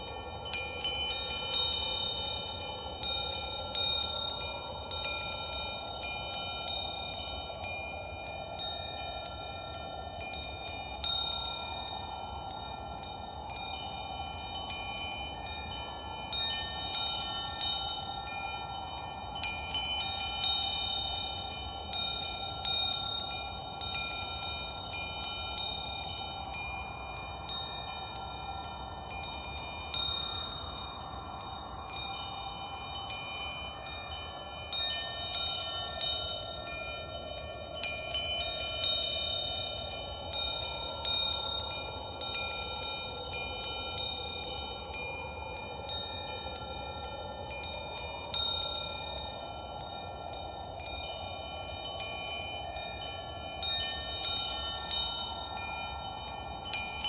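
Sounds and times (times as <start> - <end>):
wind chimes ringing: 0.0 - 57.0.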